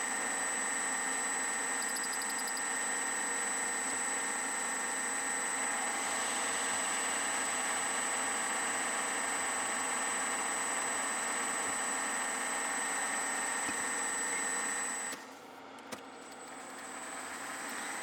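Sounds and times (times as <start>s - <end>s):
lathe motor hum and whine: 0.0s - 15.8s, 16.4s - 18.0s.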